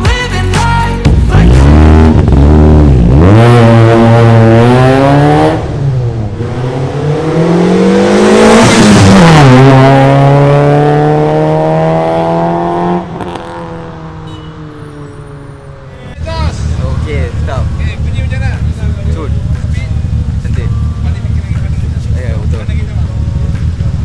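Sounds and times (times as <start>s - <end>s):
car engine accelerating hard: 1.4s - 14.2s, 16.2s - 24.0s.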